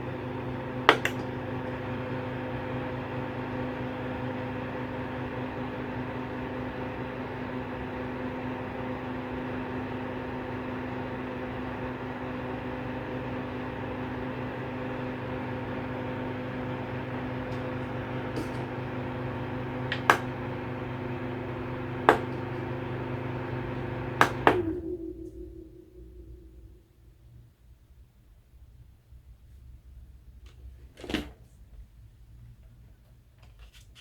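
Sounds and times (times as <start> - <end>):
fan motor humming: 0.0 - 27.6
fan spinning down: 0.0 - 27.9.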